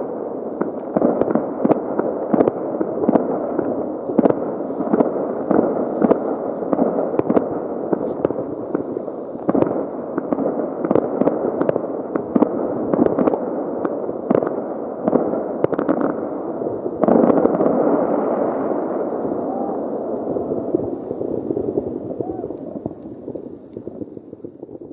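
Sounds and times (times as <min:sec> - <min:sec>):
distant fireworks rumbling: 0:00.0 - 0:24.9
sharp firework cracks: 0:00.0 - 0:24.9.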